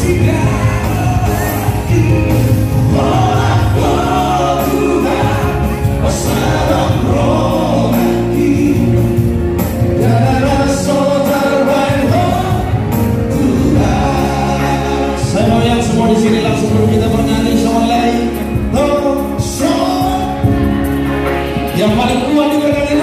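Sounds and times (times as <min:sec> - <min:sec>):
male trio singing in harmony: 0:00.0 - 0:20.6
musical accompaniment with bass: 0:00.0 - 0:23.0.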